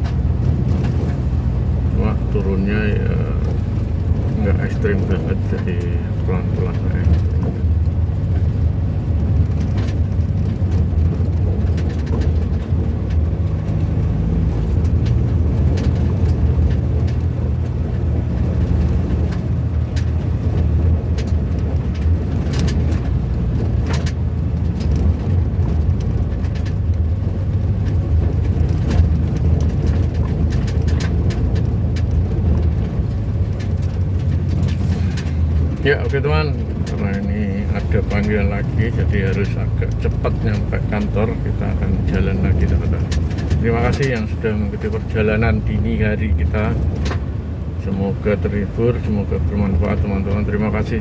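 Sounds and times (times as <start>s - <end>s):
road noise: 0.0s - 51.0s
small knocks and rattles: 0.0s - 51.0s
vehicle engine running: 0.0s - 51.0s.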